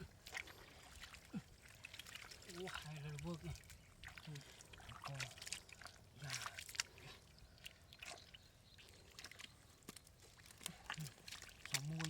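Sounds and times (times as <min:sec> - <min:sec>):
shallow water sloshing: 0:00.0 - 0:12.0.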